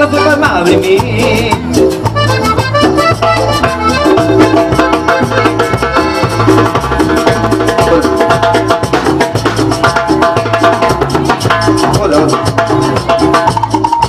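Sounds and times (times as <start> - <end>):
bass line: 0.0 - 14.0
live band playing: 0.0 - 14.0
percussion beat: 0.0 - 14.0.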